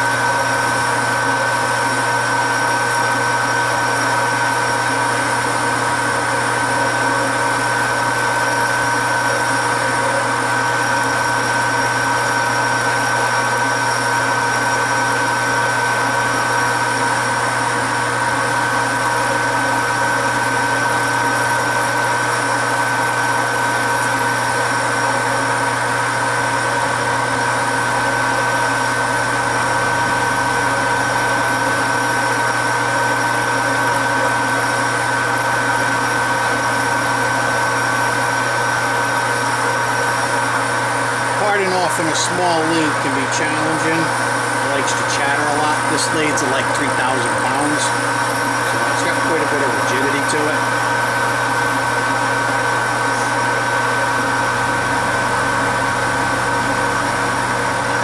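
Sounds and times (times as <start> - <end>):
metal lathe humming with high whine: 0.0 - 58.0.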